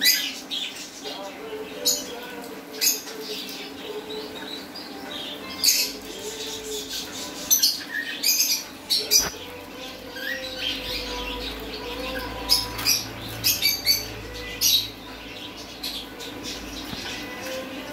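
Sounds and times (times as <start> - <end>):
parrots squawking: 0.0 - 17.9.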